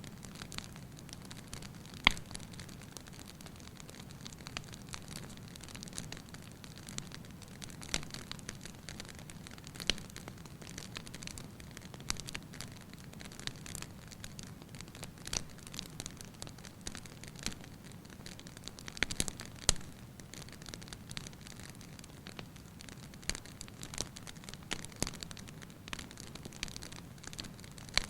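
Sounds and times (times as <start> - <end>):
fire crackling and popping: 0.0 - 28.0
low fire hiss: 0.0 - 28.0.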